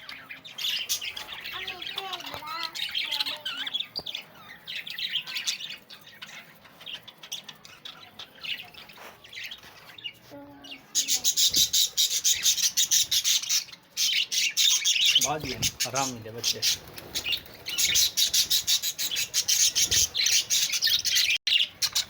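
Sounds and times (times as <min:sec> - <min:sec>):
lovebirds chirping: 0:00.0 - 0:22.0.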